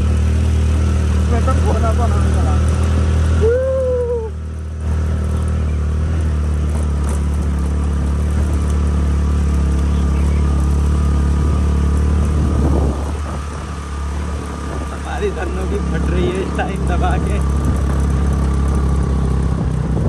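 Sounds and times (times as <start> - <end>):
scooter engine under load: 0.0 - 20.0.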